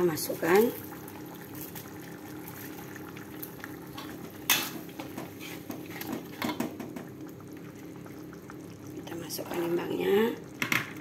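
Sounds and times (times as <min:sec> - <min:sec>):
chili paste sizzling in oil: 0:00.0 - 0:11.0.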